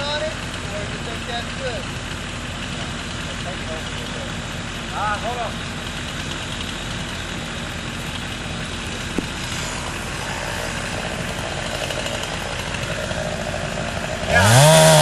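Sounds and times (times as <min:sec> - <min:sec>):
chainsaw revving at full throttle: 0:00.0 - 0:15.0
engine idling: 0:00.0 - 0:15.0.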